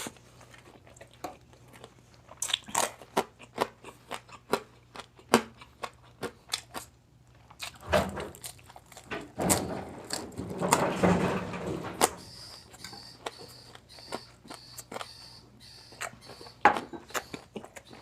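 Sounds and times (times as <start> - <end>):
crispy food crunching: 0.0 - 10.8, 12.0 - 18.0.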